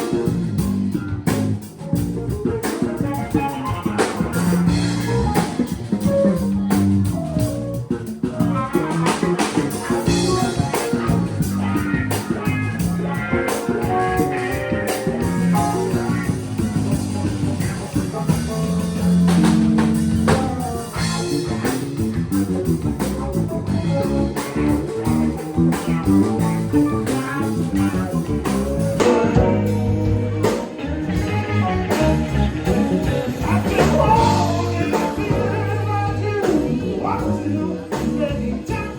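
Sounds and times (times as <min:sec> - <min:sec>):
blues-rock band instrumental: 0:00.0 - 0:38.9.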